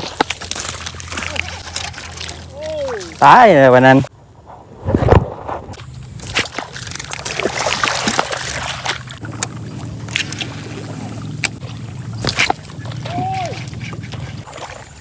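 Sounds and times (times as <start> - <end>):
water sloshing and splashing: 0.0 - 3.6, 5.7 - 15.0.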